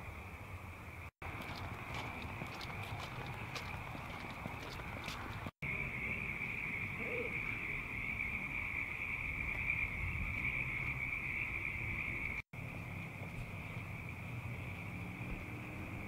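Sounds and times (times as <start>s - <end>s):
frogs trilling: 0.8s - 16.0s.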